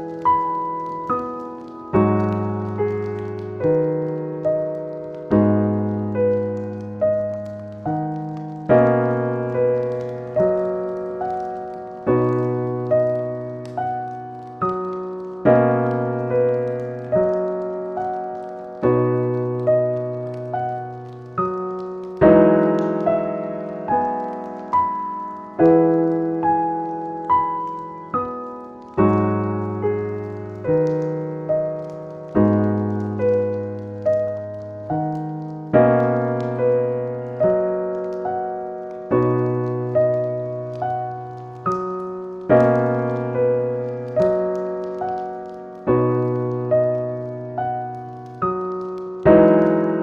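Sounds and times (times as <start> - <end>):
fireplace crackling: 0.0 - 50.0
slow solo piano: 0.0 - 50.0.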